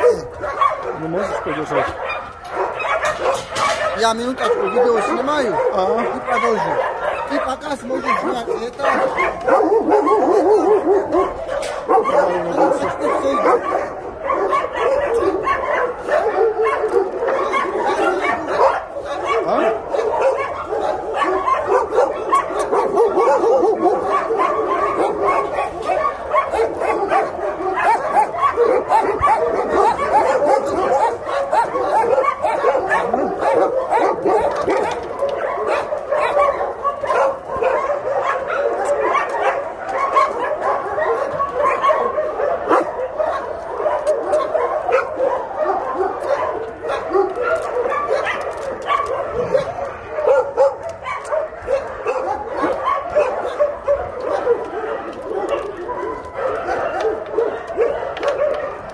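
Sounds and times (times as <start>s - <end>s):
dogs barking and whining: 0.0s - 58.9s.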